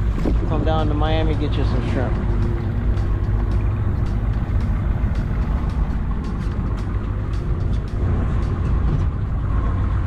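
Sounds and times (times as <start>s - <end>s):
outboard motor running: 0.0s - 10.0s
wind and water noise: 0.0s - 10.0s.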